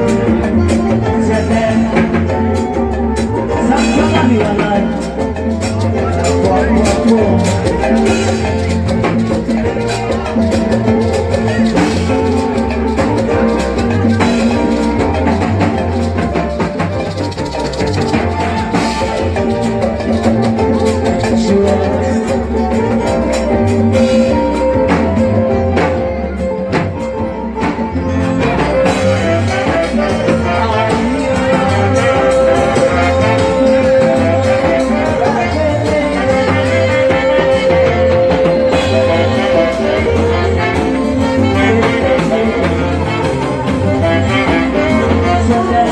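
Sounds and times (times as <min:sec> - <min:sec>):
drum kit beat: 0:00.0 - 0:45.9
live band playing: 0:00.0 - 0:45.9
repeating bass line: 0:00.0 - 0:45.9
saxophones: 0:00.0 - 0:45.9.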